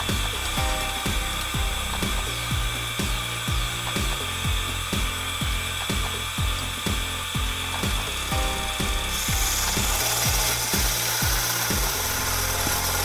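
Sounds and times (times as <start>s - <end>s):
background music with beat: 0.0s - 13.0s
lathe tool rasping on wood: 0.0s - 13.0s.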